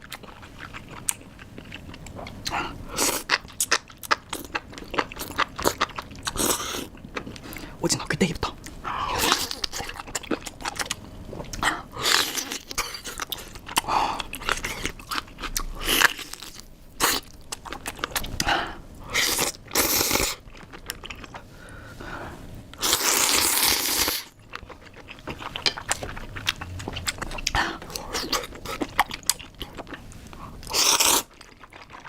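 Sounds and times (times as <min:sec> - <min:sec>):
chewing: 0:00.0 - 0:07.7, 0:08.4 - 0:18.5, 0:19.1 - 0:21.5, 0:22.8 - 0:32.0.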